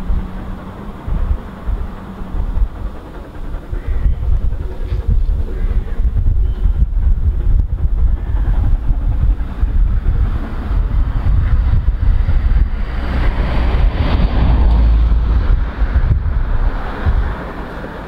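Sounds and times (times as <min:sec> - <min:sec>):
distant steam locomotive: 0:00.0 - 0:18.0
wind buffeting microphone: 0:00.0 - 0:18.0.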